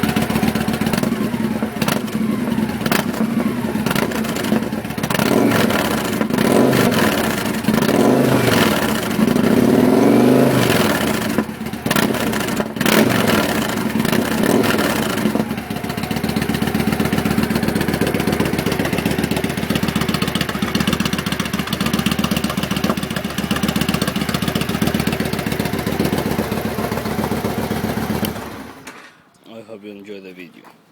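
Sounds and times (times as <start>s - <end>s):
motorcycle engine idling: 0.0s - 28.9s
motorcycle engine revving: 0.0s - 29.0s.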